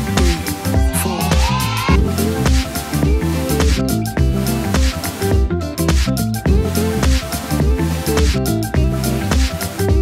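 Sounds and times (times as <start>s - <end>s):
electronic music with beat and bass: 0.0s - 10.0s.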